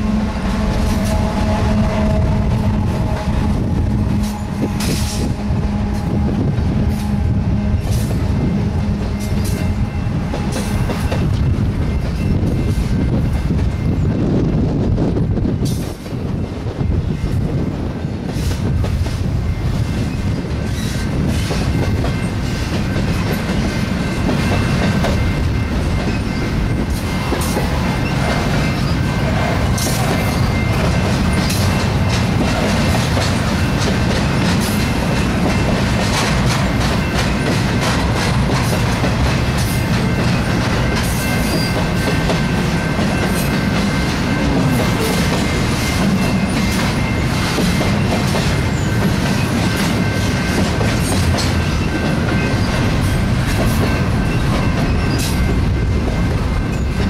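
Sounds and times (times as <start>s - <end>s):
train wheels rumbling on rail: 0.0s - 57.0s
clanks over rail joints: 0.6s - 14.0s, 20.1s - 57.0s.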